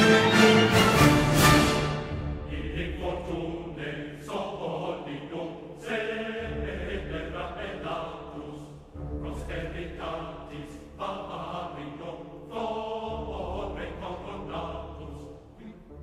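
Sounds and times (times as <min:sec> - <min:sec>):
choir-like singing music: 0:00.0 - 0:16.0.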